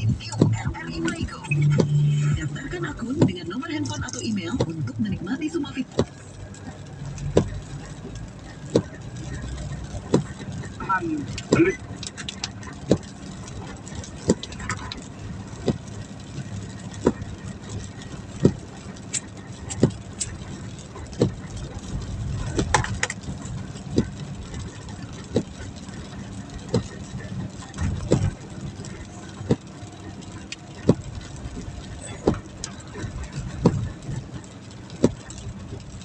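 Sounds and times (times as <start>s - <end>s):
vehicle engine and road hum: 0.0s - 36.0s.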